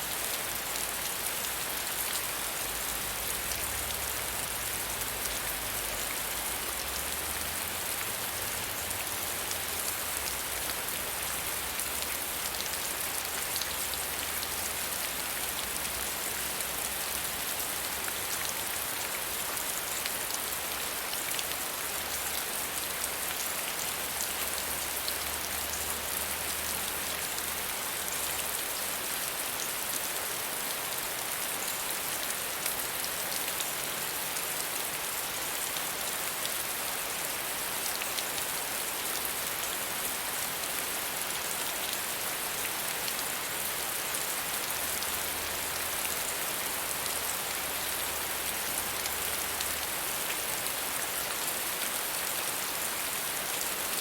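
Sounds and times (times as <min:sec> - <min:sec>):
soft steady rain: 0:00.0 - 0:54.0.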